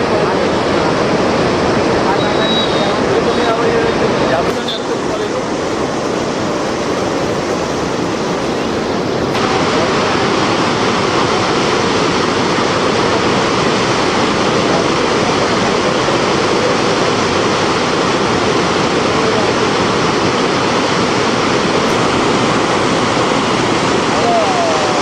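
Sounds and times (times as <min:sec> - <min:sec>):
fast river rushing: 0:00.0 - 0:25.0.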